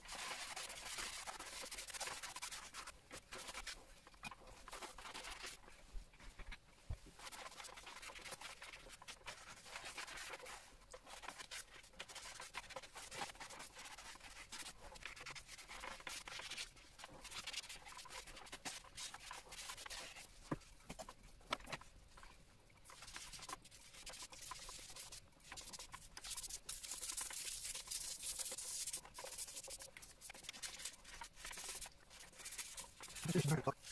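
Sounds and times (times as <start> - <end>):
scouring pad scrubbing stone: 0.0 - 3.8, 7.2 - 20.3, 22.8 - 33.9.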